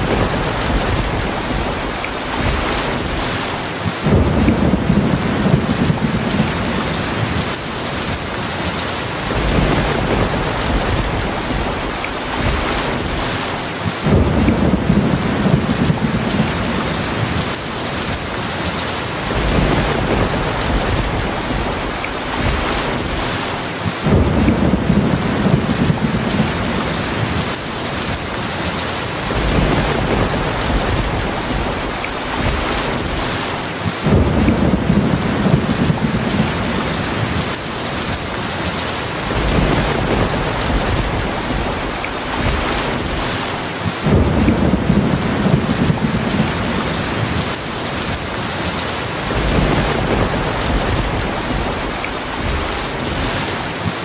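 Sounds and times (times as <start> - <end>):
thunder rumbling: 0.0 - 18.5, 19.1 - 28.4, 29.0 - 54.0
heavy rain falling: 0.0 - 54.0.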